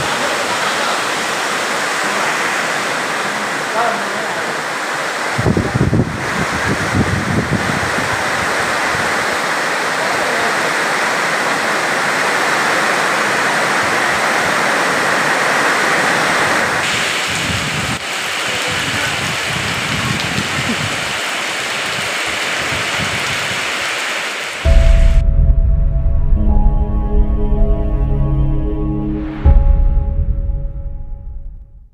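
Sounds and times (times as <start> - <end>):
heavy rain pouring: 0.0 - 31.6.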